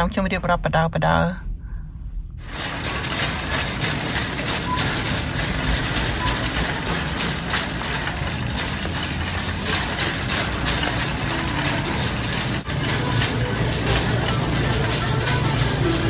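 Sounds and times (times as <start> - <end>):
supermarket background hum: 0.0 - 16.0.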